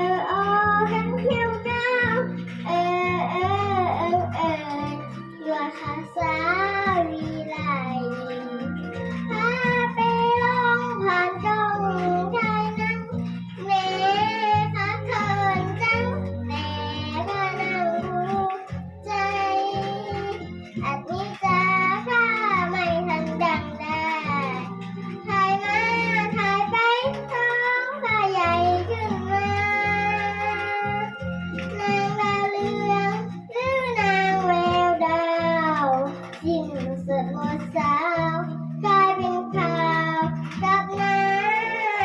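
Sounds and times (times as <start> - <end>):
child singing with vibrato: 0.0 - 42.0
guitar and bass backing track: 0.0 - 42.0.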